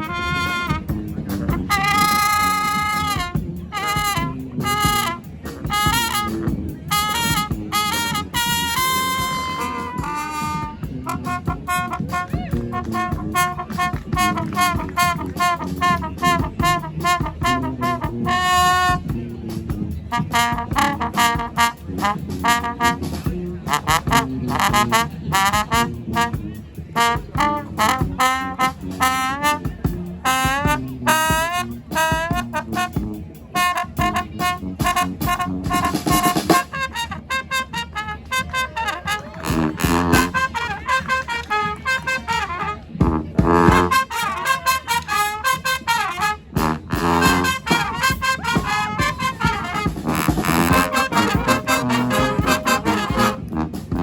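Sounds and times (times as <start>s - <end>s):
trombones and trumpets playing: 0.0s - 54.0s.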